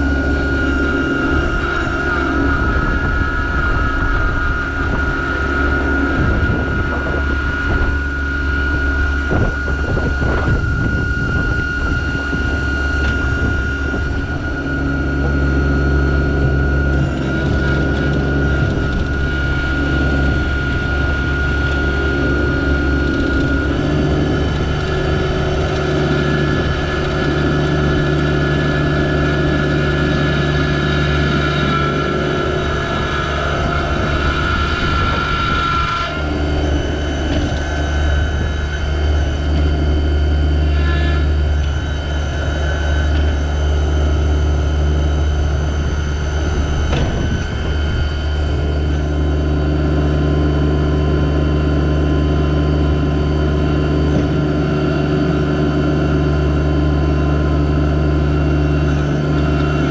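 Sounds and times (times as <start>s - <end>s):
high whine: 0.0s - 59.9s
tractor diesel engine running: 0.0s - 59.9s.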